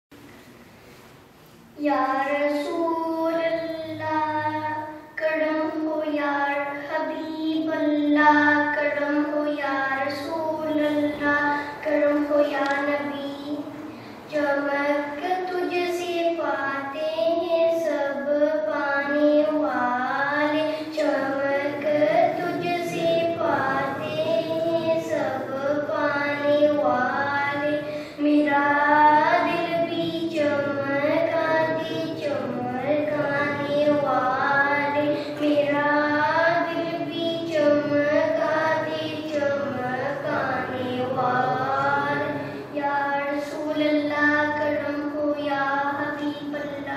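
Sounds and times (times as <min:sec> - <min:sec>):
boy singing into microphone: 0:01.8 - 0:46.9.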